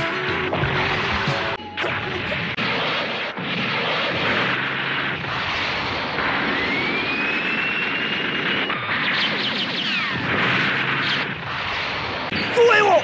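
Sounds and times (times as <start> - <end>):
heavy automatic gunfire: 0.6 - 12.4.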